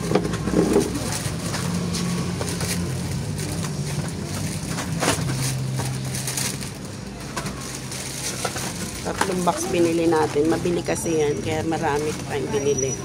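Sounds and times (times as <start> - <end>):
cardboard and paper boxes rustling: 0.0 - 13.0.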